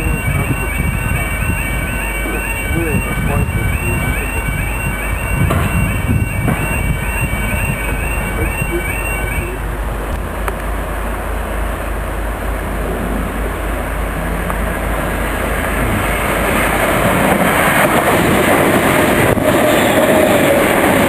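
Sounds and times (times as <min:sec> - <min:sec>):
faint train whine: 0:00.0 - 0:21.0
train passing at speed: 0:00.0 - 0:21.0.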